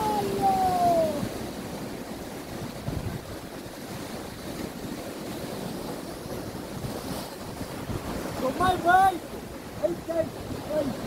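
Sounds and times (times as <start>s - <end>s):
surf breaking over rocks: 0.0s - 11.0s
wind rumbling on microphone: 0.0s - 11.0s.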